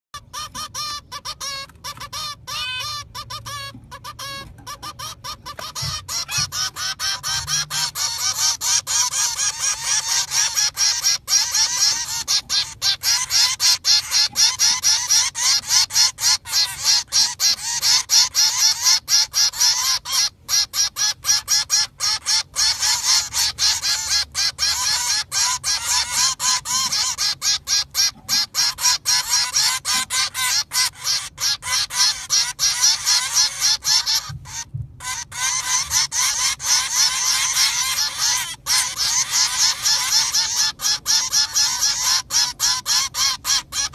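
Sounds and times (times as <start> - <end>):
ducks calling: 0.2 - 43.9.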